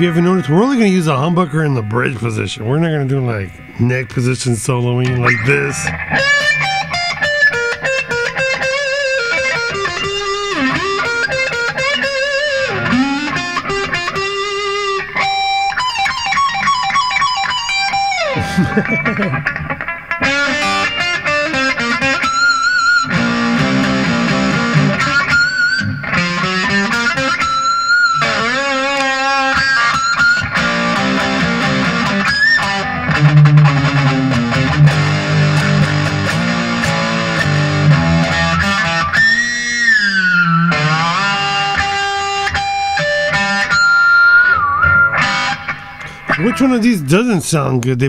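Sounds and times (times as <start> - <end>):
distorted electric guitar lead: 0.0 - 48.0.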